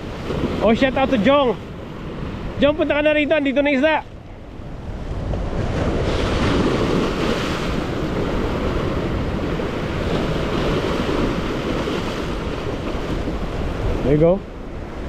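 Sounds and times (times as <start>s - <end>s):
rough surf washing: 0.0s - 15.0s
wind buffeting microphone: 0.0s - 15.0s.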